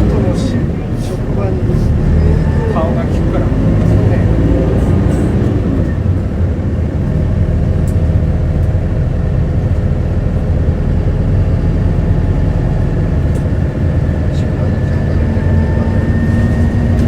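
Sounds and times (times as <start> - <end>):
bus diesel engine: 0.0 - 17.0
road noise: 0.0 - 17.0.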